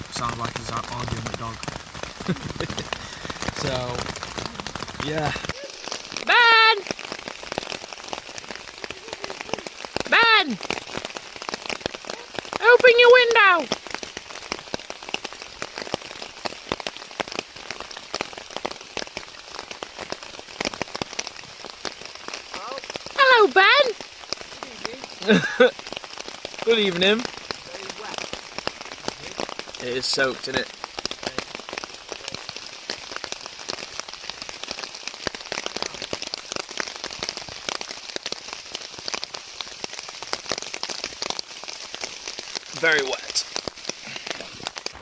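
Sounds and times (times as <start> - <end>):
heavy rain on a tent: 0.0 - 45.0.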